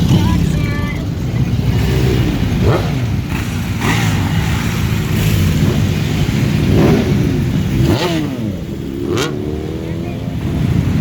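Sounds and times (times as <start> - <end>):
motorcycle engines running: 0.0 - 11.0
engine revving: 1.4 - 11.0.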